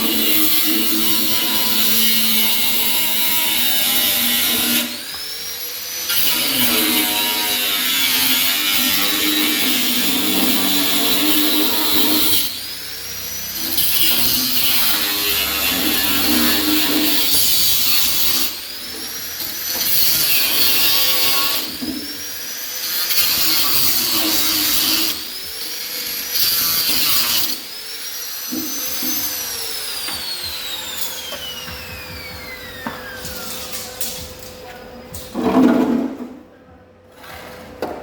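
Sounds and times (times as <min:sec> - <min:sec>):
angle grinder on steel: 0:00.0 - 0:34.6.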